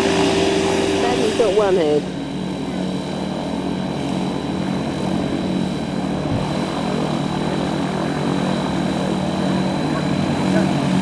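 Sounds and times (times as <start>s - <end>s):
aircraft engine and propeller running: 0.0s - 11.0s.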